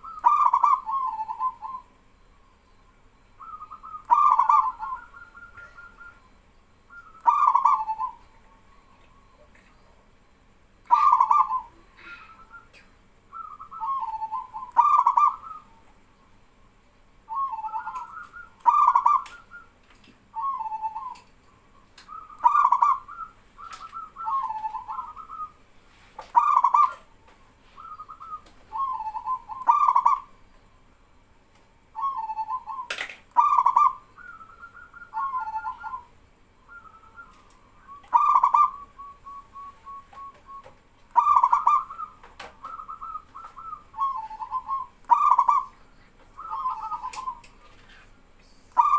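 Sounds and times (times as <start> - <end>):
doves cooing: 0.0 - 16.3, 17.3 - 30.5, 31.8 - 48.9.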